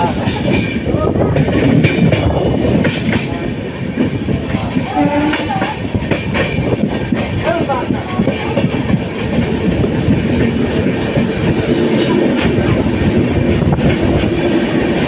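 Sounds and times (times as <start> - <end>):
clatter over rail joints: 0.0 - 15.0
train wheels rumbling on rails: 0.0 - 15.0.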